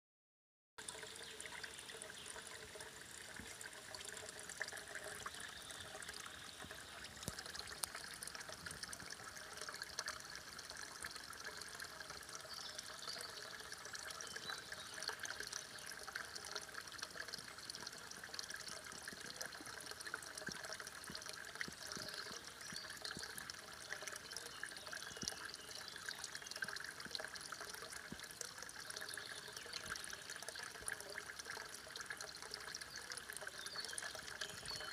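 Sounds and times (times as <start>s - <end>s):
water splashing into a pool: 0.8s - 34.9s
water trickling from a pipe: 0.8s - 34.9s.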